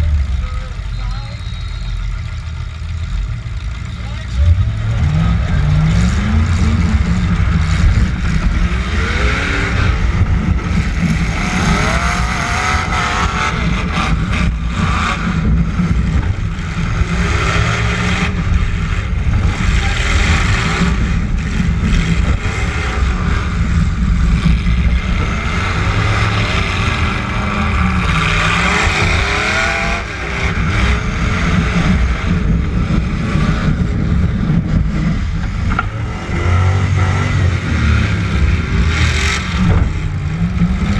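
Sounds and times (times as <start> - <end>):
truck engines revving: 0.0 - 40.9.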